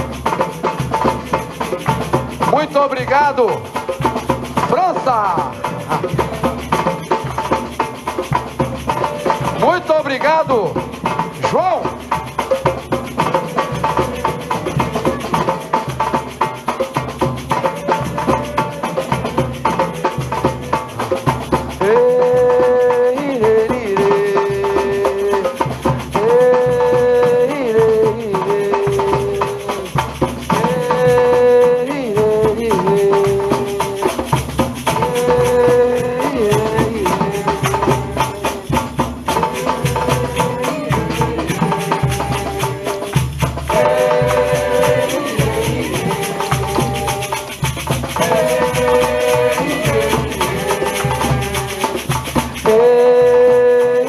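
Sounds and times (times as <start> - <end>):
drums and shakers: 0.0 - 54.0.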